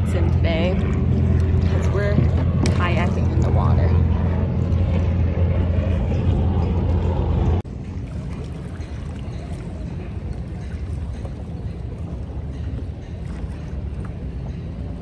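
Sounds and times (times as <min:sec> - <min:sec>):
wind and water wash: 0:00.0 - 0:15.0
wind buffeting microphone: 0:00.0 - 0:15.0.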